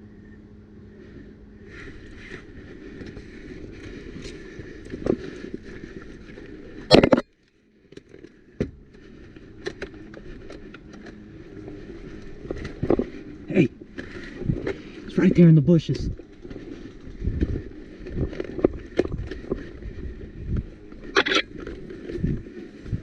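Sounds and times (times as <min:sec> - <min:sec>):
rustling and movement: 0:00.8 - 0:23.0.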